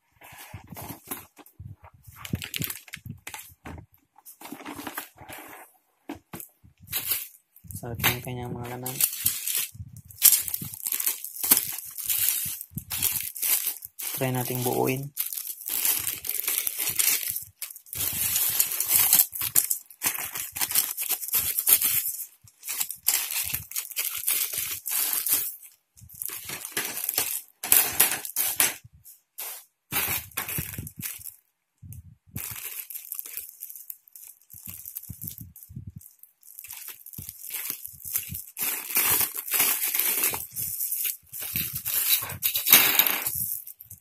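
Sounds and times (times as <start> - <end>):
plastic packaging crinkling: 2.1 - 28.8, 29.4 - 31.4, 32.4 - 44.0.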